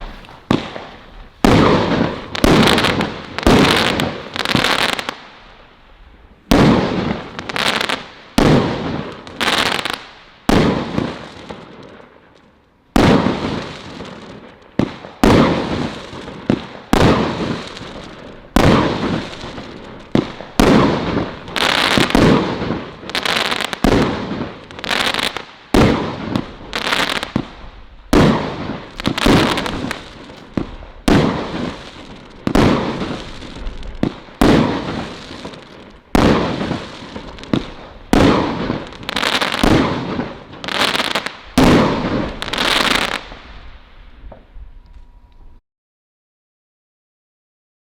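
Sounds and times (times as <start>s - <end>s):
firework bangs with crackling tails: 0.0s - 44.6s.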